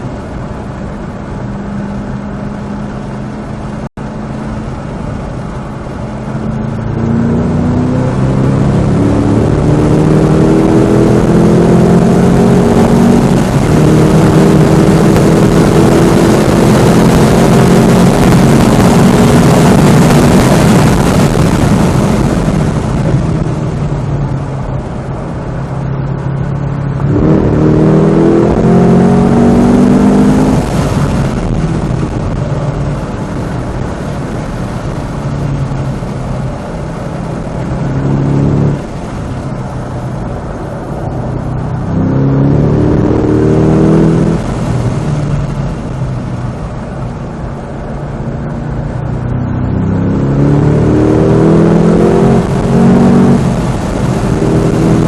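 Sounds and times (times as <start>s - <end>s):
car engine revving hard: 0.0s - 55.0s
wind and tyre noise: 0.0s - 55.0s.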